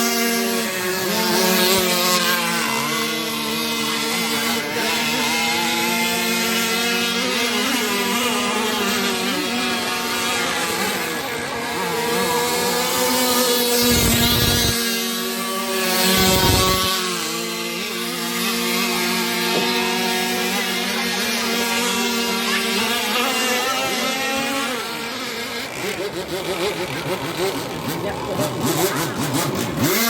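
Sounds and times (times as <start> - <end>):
boat motor buzzing drone: 0.0 - 30.0.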